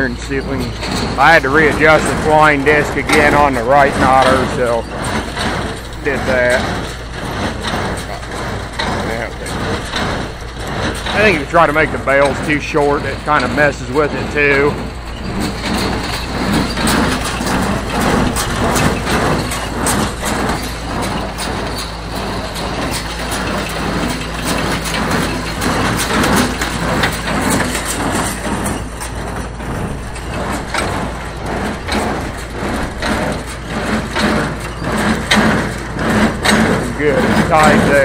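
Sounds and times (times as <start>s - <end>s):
hay baler knocking: 0.0s - 38.0s
tractor engine running: 0.0s - 38.0s.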